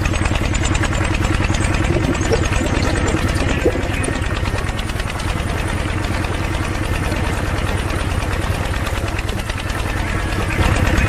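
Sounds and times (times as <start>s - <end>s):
model engine clattering: 0.0s - 11.0s.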